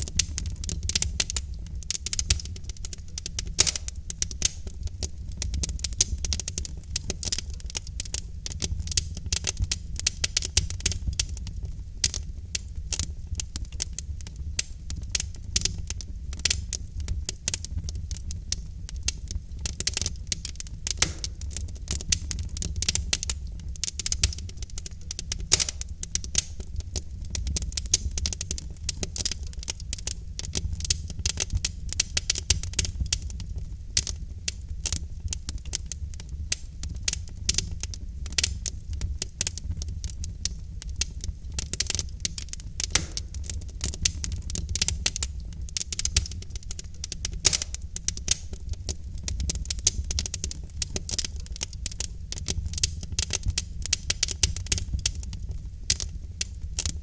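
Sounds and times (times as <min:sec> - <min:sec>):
logs crackling and popping: 0:00.0 - 0:57.0
low rumble of fire: 0:00.0 - 0:57.0.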